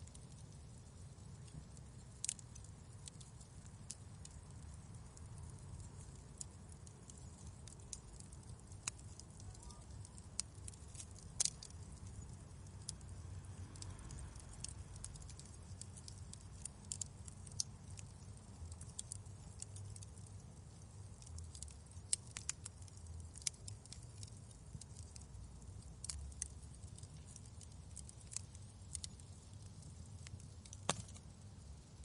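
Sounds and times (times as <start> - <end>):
low steady rumble: 0.0 - 32.0
wood fire crackling and popping: 0.0 - 32.0.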